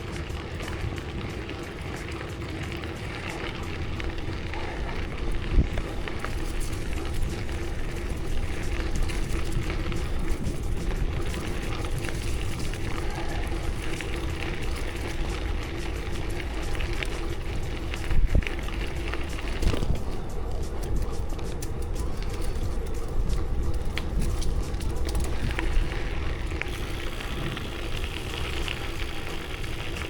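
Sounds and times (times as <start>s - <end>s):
bicycle tyre noise: 0.0s - 30.0s
wind rushing over microphone: 0.0s - 30.0s.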